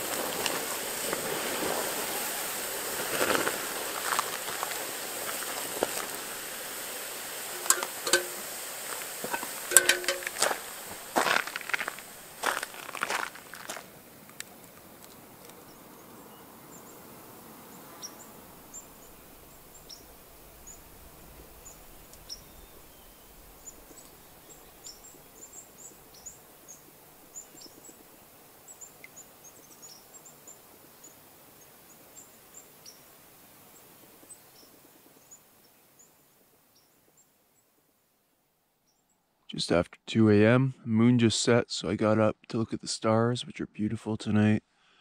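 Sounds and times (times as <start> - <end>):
soft steady hiss: 0.0 - 45.0.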